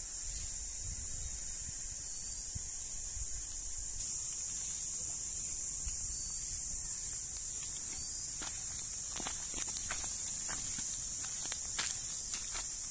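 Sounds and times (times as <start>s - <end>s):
high-pitched insect drone: 0.0s - 12.9s.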